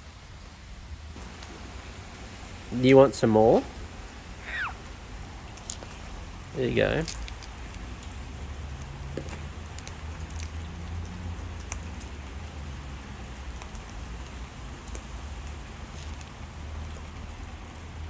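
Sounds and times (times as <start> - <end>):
sharp drips and ticks: 0.0 - 18.0
steady rain: 0.0 - 18.0.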